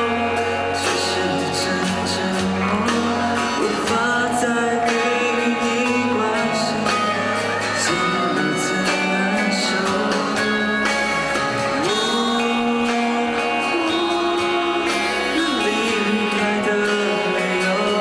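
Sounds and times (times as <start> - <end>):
instrumental accompaniment: 0.0 - 18.0
man singing into a microphone: 0.0 - 18.0.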